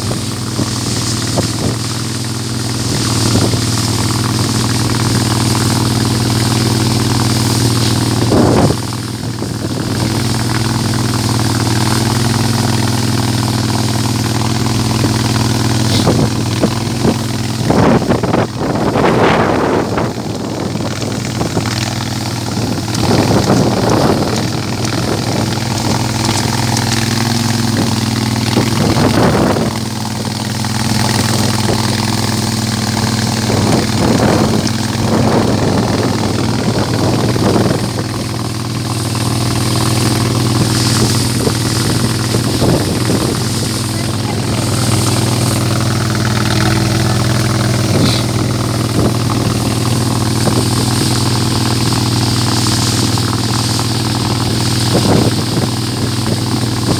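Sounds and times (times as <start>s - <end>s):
boat engine droning: 0.0s - 56.9s
water washing: 0.0s - 56.9s
wind: 0.0s - 56.9s.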